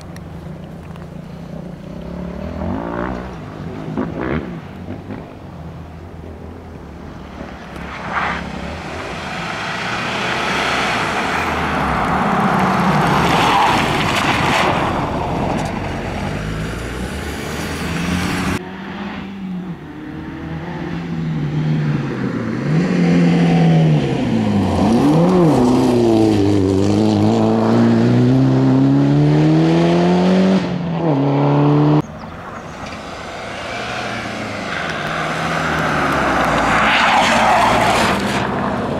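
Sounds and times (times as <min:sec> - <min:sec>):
rally car approaching: 0:00.0 - 0:38.9
car engine accelerating: 0:07.3 - 0:38.9.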